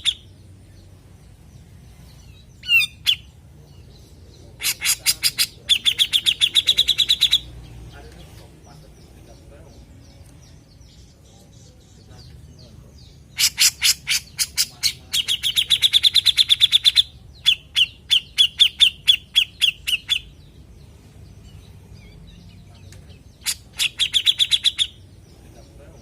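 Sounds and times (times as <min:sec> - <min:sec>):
bulbul calling in chattering trills: 0:00.0 - 0:26.0.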